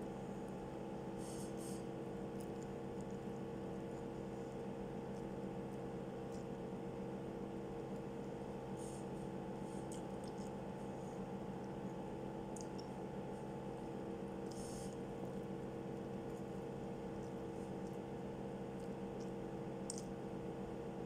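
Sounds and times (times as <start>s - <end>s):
appliance electrical hum: 0.0s - 21.0s.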